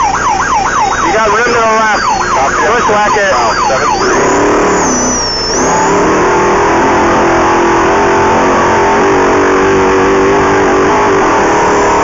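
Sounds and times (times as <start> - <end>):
engine running at high revs: 0.0 - 12.0.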